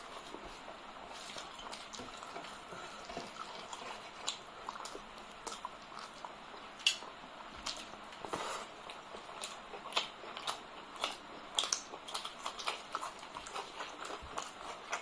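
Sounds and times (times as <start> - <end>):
fingers squishing through rice: 0.0 - 15.0
wet chewing and lip smacks: 0.2 - 15.0.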